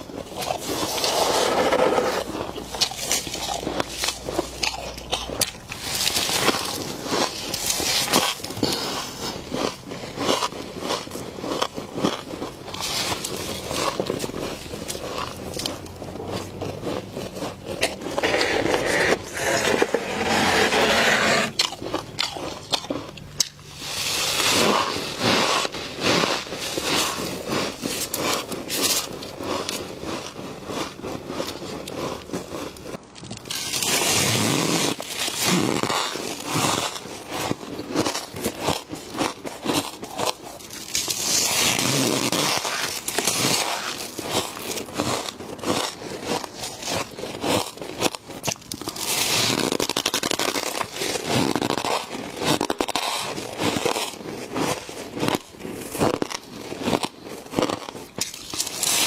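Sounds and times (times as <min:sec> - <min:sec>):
frost crackling and crunching: 0:00.0 - 0:59.0.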